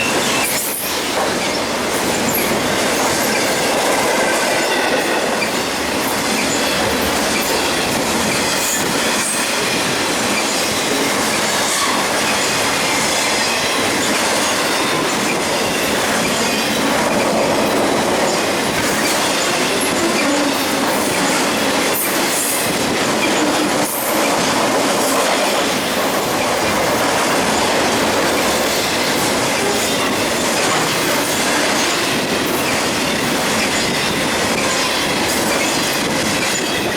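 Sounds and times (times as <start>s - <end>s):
freight train wheels rumbling: 0.0s - 36.9s.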